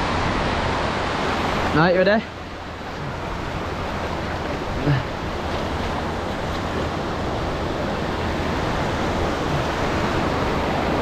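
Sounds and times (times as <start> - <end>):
sea surf washing over sand: 0.0 - 11.0.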